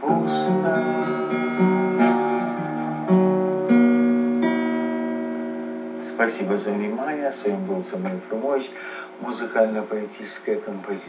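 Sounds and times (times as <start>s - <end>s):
acoustic guitar playing: 0.0s - 9.4s.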